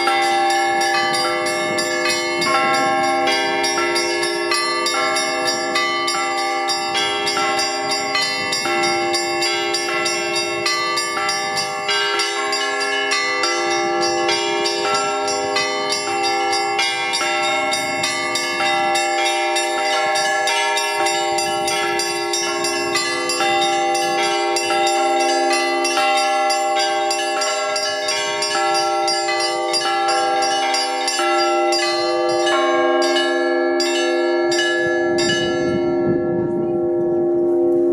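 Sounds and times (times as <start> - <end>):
large deep church bells ringing: 0.0 - 37.9
small high church bells ringing: 0.0 - 37.9.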